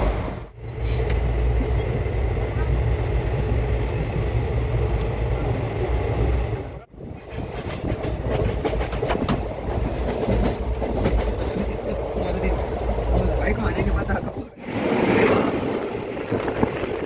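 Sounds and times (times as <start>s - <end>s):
train rumble with clatter: 0.0s - 17.0s.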